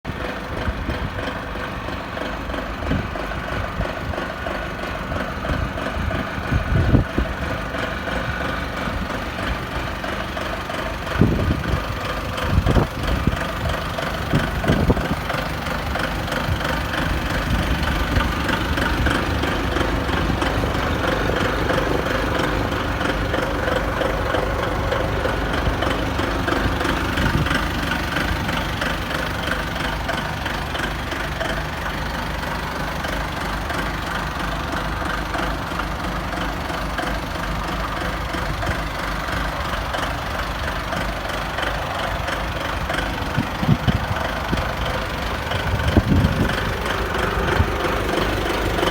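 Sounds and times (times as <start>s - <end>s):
forklift engine running: 0.0s - 48.9s.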